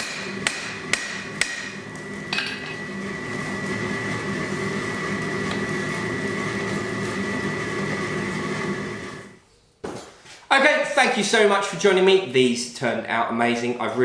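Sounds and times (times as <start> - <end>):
workshop hum: 0.0 - 14.0.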